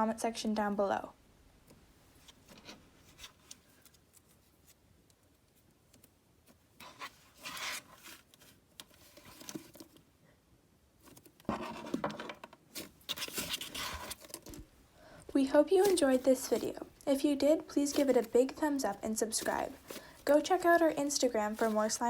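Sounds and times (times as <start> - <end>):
scratching and rubbing handling noise: 2.1 - 10.1, 10.9 - 22.0.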